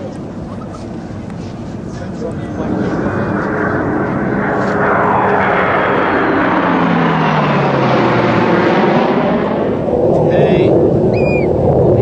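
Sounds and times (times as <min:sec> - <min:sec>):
aircraft flying past: 0:00.0 - 0:12.0.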